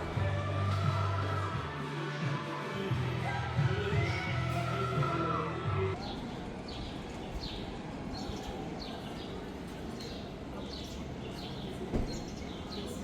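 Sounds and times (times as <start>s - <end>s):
background murmur: 0.0s - 13.0s.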